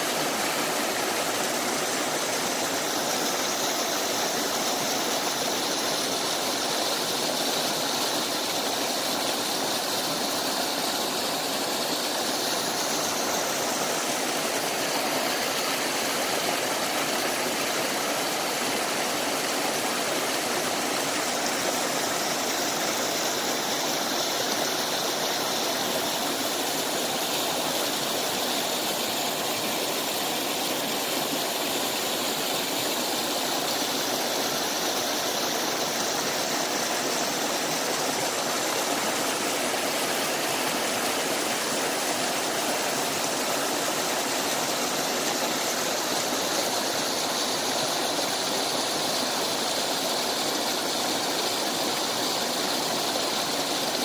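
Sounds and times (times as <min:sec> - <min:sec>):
stream rushing over cascades: 0:00.0 - 0:54.0.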